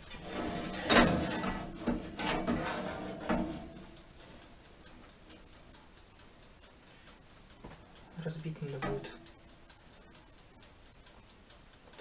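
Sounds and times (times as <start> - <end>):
rapid mechanical timer ticking: 0.0 - 12.0.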